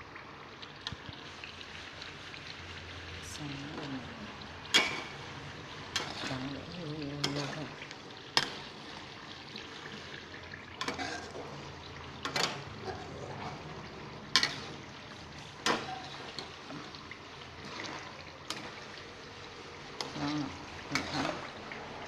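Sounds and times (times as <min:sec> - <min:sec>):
chili and garlic sizzling in pan: 0:00.0 - 0:22.0.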